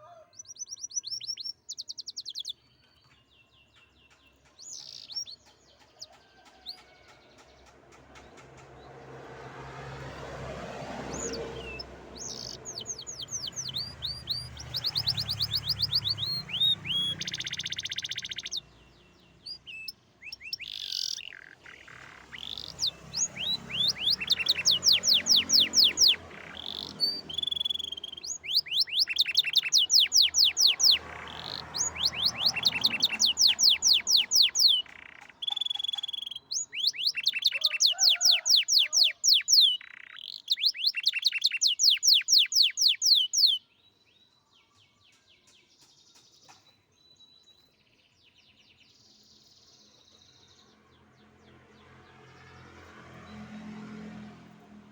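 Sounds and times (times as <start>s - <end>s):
canary singing trills: 0.0s - 53.6s.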